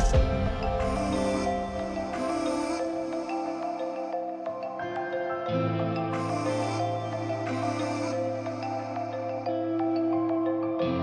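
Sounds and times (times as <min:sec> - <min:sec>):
soft new-age instrumental music: 0:00.0 - 0:11.0.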